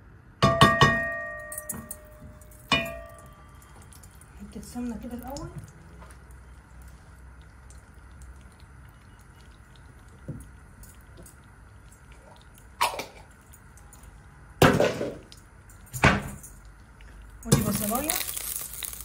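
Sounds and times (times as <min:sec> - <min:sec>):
ghee melting with faint hiss: 0:01.9 - 0:14.6, 0:15.2 - 0:19.0.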